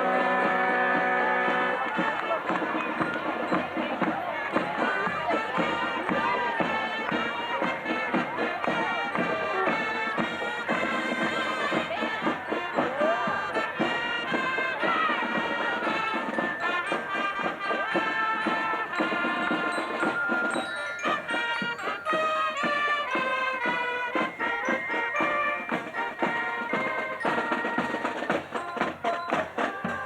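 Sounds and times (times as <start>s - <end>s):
drumbeats: 0.0s - 30.0s
wind instruments holding notes: 0.0s - 30.0s.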